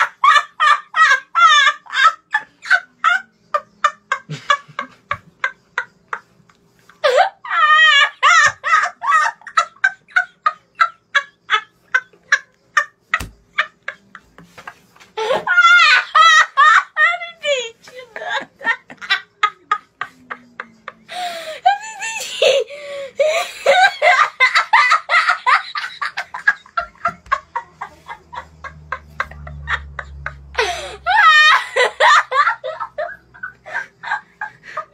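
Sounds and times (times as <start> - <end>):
boys laughing: 0.0 - 34.9.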